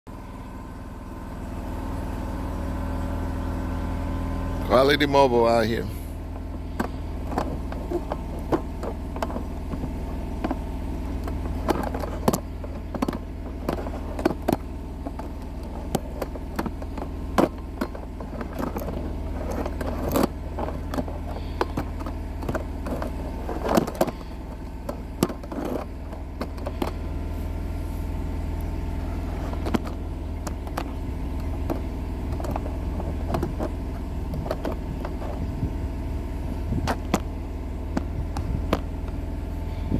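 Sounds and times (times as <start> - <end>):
engine idling: 0.1 - 39.9.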